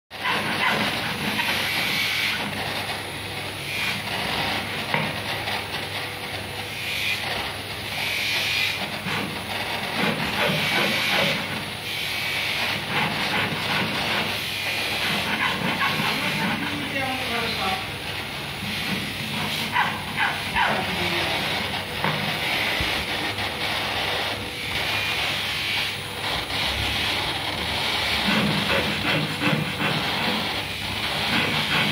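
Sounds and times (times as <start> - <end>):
gas soldering torch hissing: 0.3 - 31.9.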